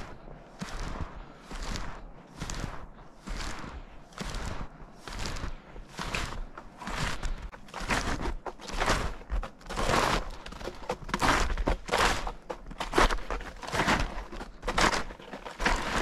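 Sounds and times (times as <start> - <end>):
snowshoe footsteps crunching snow: 0.0 - 16.0.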